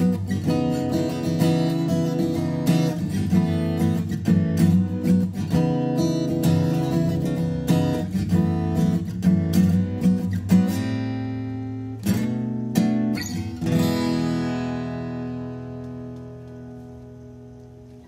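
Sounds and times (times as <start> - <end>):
acoustic guitar fingerpicked chords: 0.0 - 18.0.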